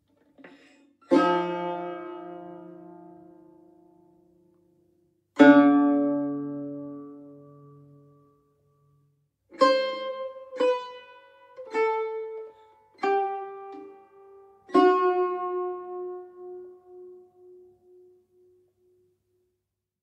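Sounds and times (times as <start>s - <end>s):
plucked tar notes: 0.0s - 19.0s.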